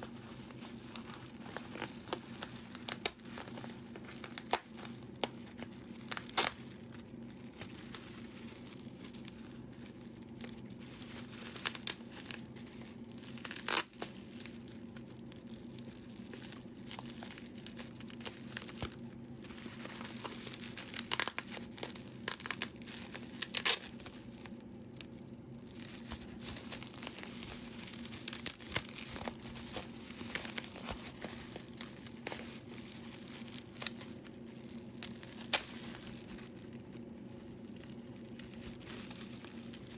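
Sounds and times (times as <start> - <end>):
packaging crinkling and tearing: 0.0 - 39.9
steady low hum: 0.0 - 39.9.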